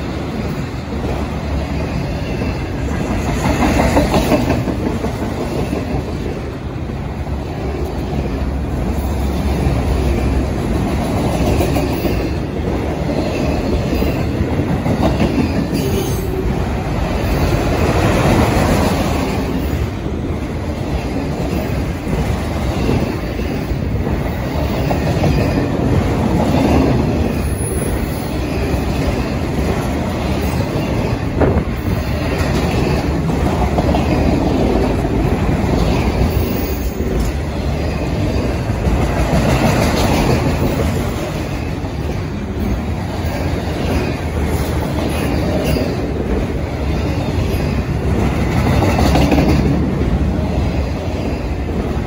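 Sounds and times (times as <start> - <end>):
steel wheels on rail: 0.0 - 52.0.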